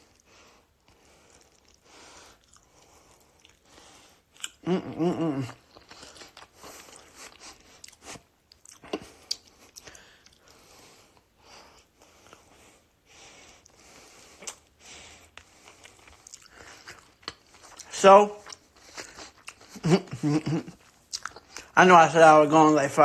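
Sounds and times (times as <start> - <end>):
person chewing chicken wings: 0.0 - 11.3, 13.6 - 21.8.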